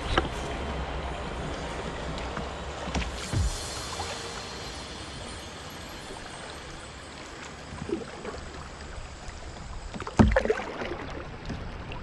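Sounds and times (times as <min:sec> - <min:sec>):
water rushing and babbling: 0:00.0 - 0:12.0.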